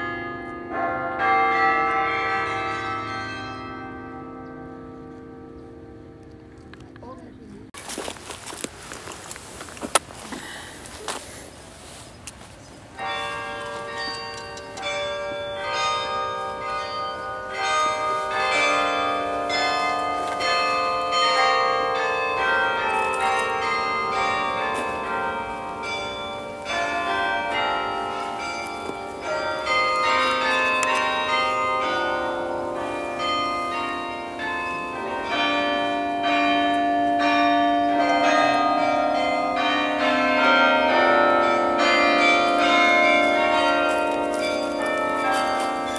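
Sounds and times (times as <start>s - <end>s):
carillon bells playing melody: 0.0s - 6.5s, 13.0s - 45.9s.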